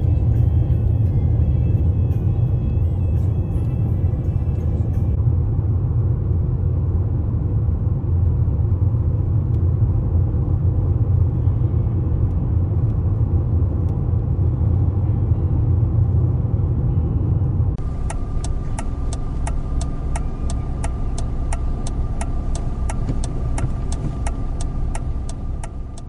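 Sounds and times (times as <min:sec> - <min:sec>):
car road rumble: 0:00.0 - 0:26.0.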